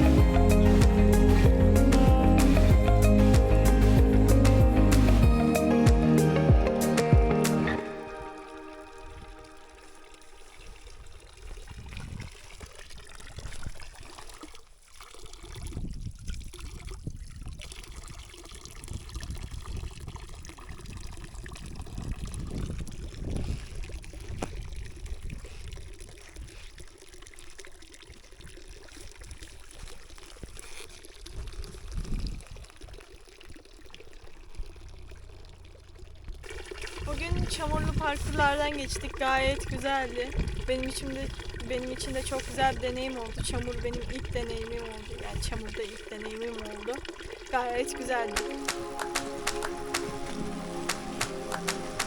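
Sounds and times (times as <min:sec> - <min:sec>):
water trickling in a creek: 0:00.0 - 0:52.0.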